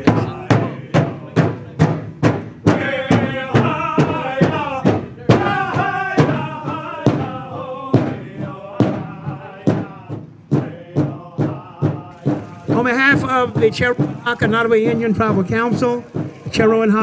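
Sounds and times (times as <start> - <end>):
drum beating steadily: 0.0 - 17.0
singers chanting: 0.0 - 17.0.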